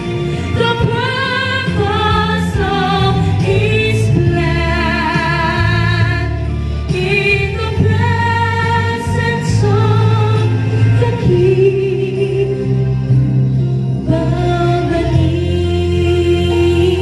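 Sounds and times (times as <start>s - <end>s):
boy singing gospel ballad: 0.0s - 12.8s, 14.0s - 17.0s.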